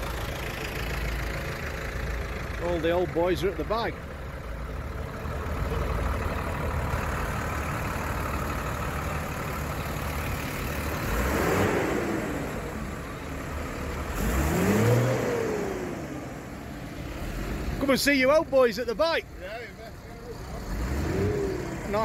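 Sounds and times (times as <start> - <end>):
diesel tractor engines idling: 0.0 - 22.0
tractor engine revving: 0.0 - 22.0.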